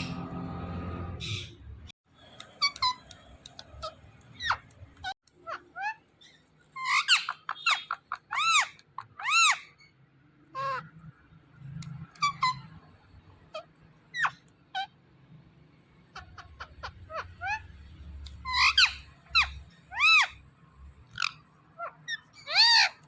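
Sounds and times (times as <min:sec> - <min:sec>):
parrot squawking and chirping: 0:01.2 - 0:01.7, 0:02.4 - 0:11.1, 0:11.9 - 0:15.0, 0:16.1 - 0:20.4, 0:21.0 - 0:23.0.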